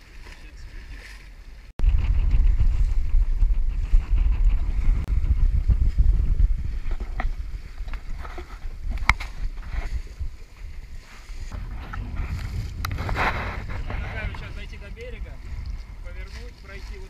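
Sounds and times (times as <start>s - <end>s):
water splashing along hull: 0.0s - 17.0s
wind buffeting microphone: 0.6s - 17.0s.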